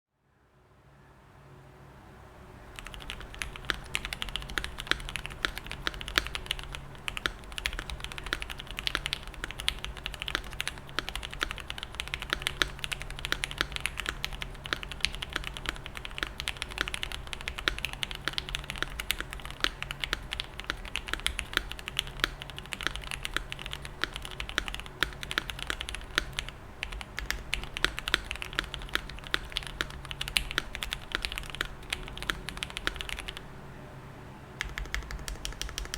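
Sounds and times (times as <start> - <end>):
fast typing on mechanical keyboard: 2.7 - 33.4, 34.6 - 35.9.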